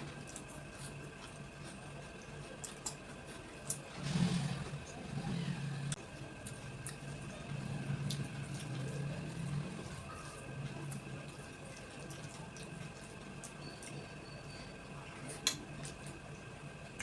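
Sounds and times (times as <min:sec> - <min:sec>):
quiet chewing: 0:00.0 - 0:04.0, 0:05.9 - 0:17.0
steady background hum: 0:00.0 - 0:17.0.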